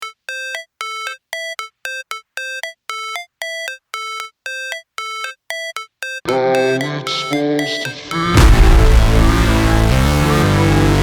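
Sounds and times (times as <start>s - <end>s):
synthesizer beeping notes: 0.0s - 11.0s.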